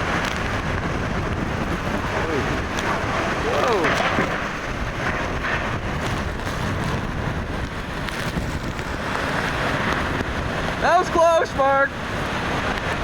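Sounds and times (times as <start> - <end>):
hurricane winds gusting: 0.0 - 13.0
wind buffeting microphone: 0.0 - 13.0.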